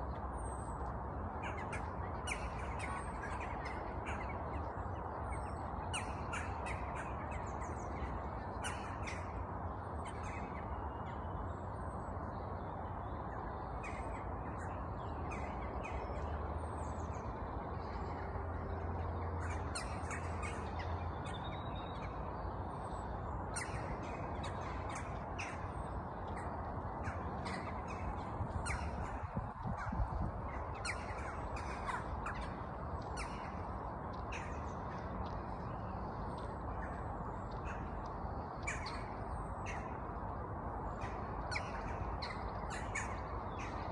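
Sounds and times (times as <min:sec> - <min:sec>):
outdoor background rush: 0:00.0 - 0:43.9.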